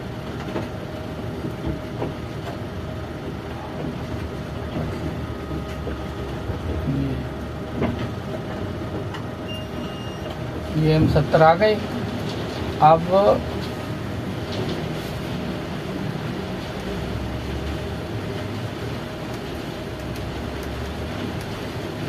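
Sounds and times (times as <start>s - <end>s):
machinery rumble and hum: 0.0s - 22.0s.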